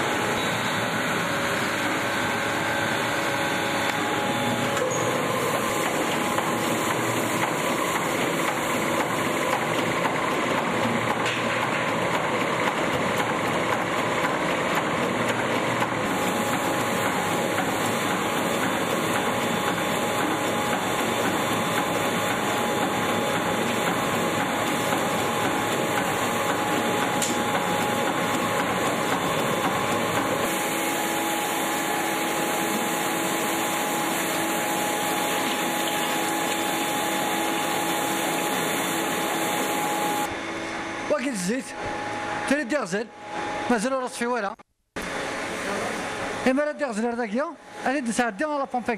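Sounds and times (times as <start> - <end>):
oil mill machinery drone: 0.0 - 43.7.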